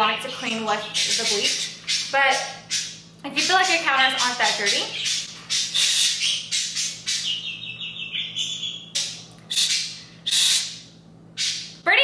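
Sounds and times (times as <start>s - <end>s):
bird calling loudly: 0.7s - 11.8s.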